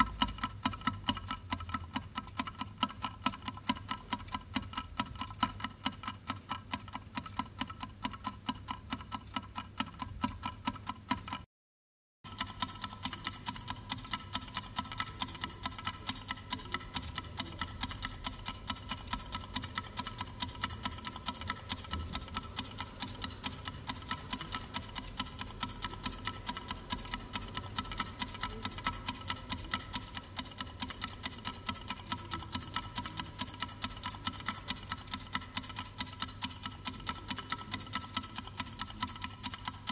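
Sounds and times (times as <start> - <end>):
clock ticking rapidly: 0.0 - 11.5, 12.2 - 39.9
clock ticking with sharper tick: 0.0 - 11.5, 12.3 - 39.9.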